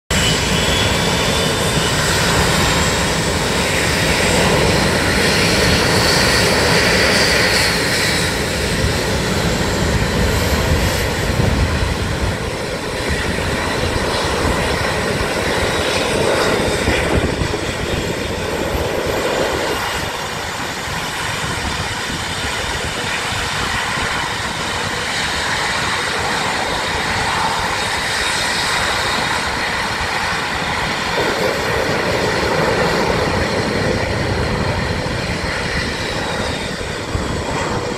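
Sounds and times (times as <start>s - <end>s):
jet engines whining: 0.1s - 37.9s.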